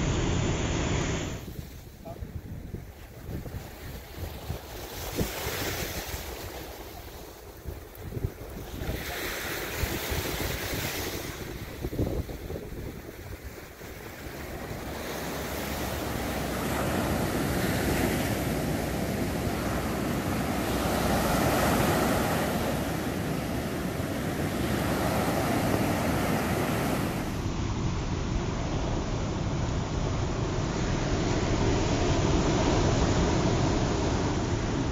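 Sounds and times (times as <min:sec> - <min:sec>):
surf washing up a beach: 0:00.0 - 0:34.9
wind on microphone: 0:00.0 - 0:34.9.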